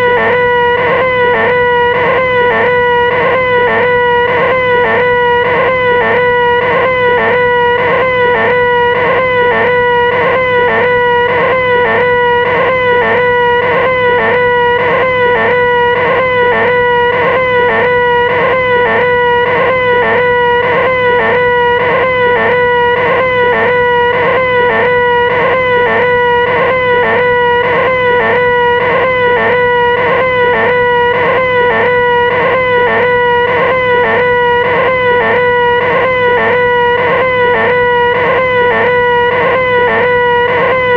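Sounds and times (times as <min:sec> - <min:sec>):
person holding high-pitched whine: 0:00.0 - 0:40.9.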